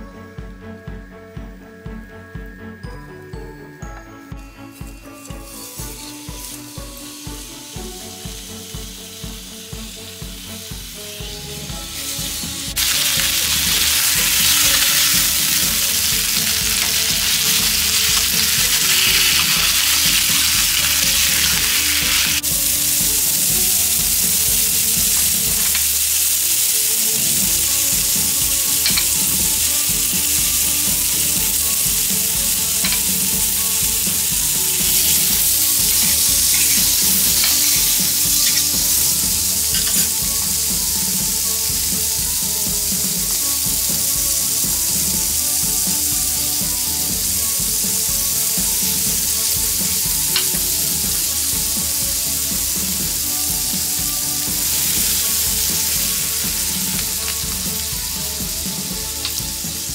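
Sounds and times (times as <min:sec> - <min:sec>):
soft background music with beat: 0:00.0 - 0:59.9
chicken sizzling in a pan: 0:04.8 - 0:59.9.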